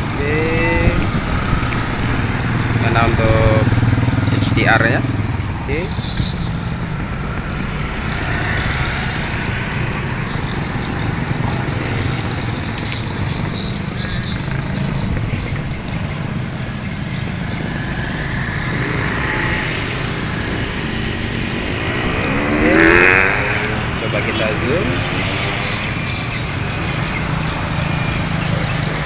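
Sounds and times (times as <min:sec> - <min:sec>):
traffic engine rumble: 0:00.0 - 0:29.0
vehicles passing by: 0:00.0 - 0:29.0.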